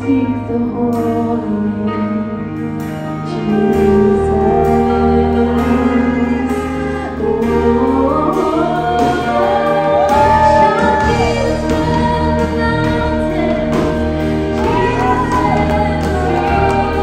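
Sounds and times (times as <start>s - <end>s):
electric keyboard chords: 0.0s - 17.0s
woman singing amplified: 0.0s - 17.0s.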